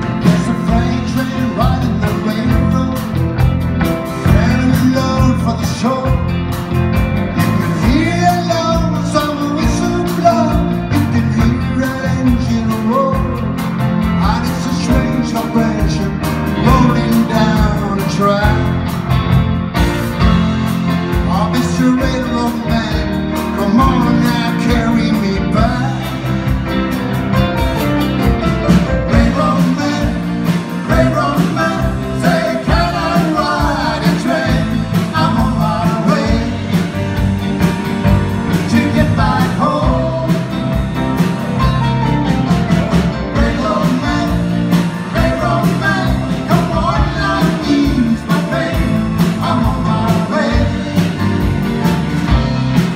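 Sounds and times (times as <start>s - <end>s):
drums: 0.0s - 52.9s
electric bass: 0.0s - 52.9s
keyboard: 0.0s - 52.9s.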